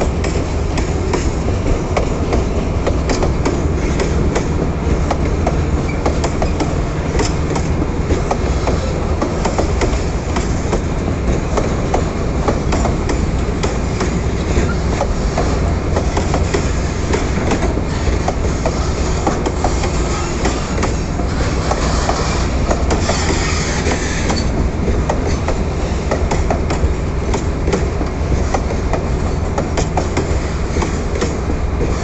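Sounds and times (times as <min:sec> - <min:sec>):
freight wagons rumbling: 0:00.0 - 0:32.0
wheels clicking over rail joints: 0:00.0 - 0:32.0.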